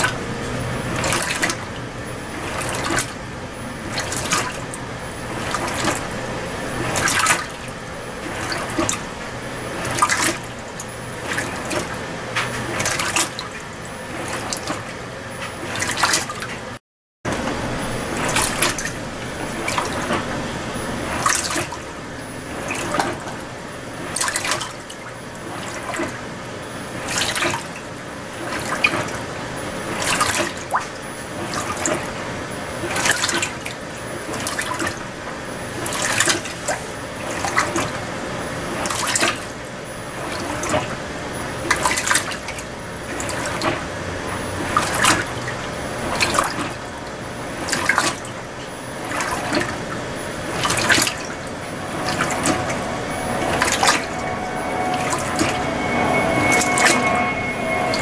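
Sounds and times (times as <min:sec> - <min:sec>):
washing machine water sloshing: 0:00.0 - 0:58.0.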